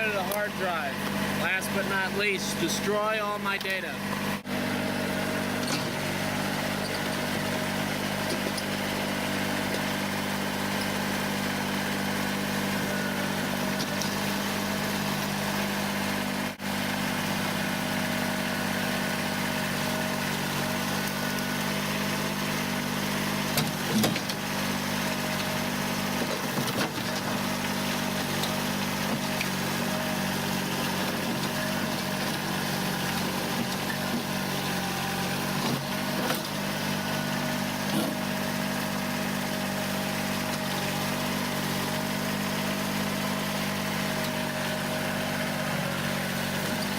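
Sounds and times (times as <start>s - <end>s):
diesel tractor engine running: 0.0s - 46.9s.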